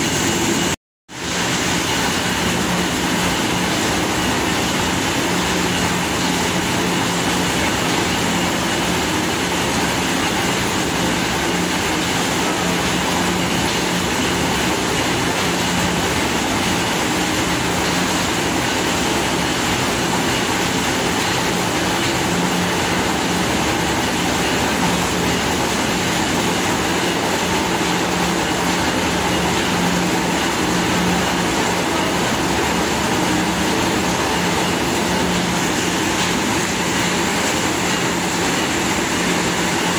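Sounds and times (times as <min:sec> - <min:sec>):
milling machinery running: 0:00.0 - 0:39.9.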